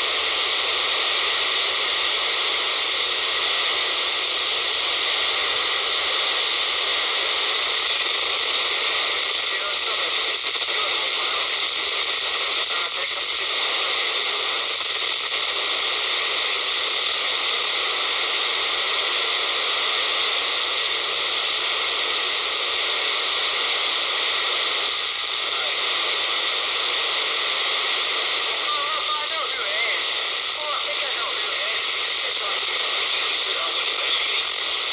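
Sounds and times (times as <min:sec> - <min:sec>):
radio static hiss: 0:00.0 - 0:34.9.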